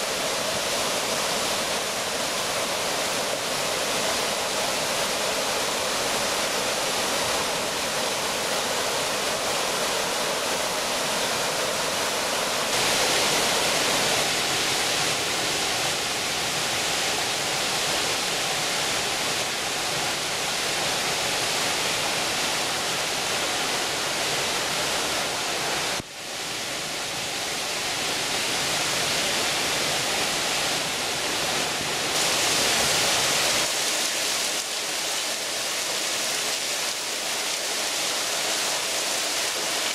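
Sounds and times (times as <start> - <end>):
small waterfalls splashing: 0.0 - 39.9.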